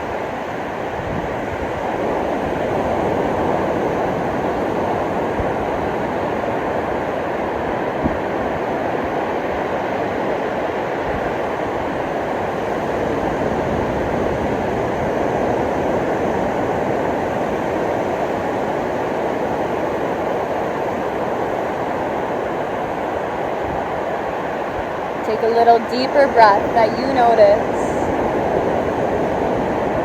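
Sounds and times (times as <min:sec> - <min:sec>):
ocean surf washing onto beach: 0:00.0 - 0:30.0.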